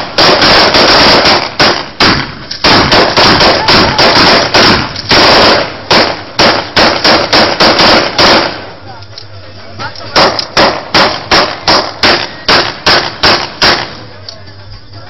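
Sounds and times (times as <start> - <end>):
rifle gunfire: 0.0 - 8.7, 10.2 - 14.0.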